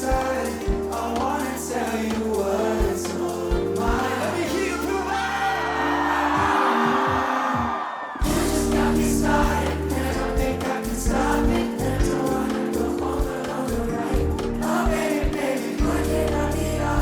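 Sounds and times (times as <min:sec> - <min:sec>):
heavy beat: 0:00.0 - 0:05.1, 0:06.4 - 0:17.0
live pop music: 0:00.0 - 0:17.0
person singing: 0:00.0 - 0:17.0.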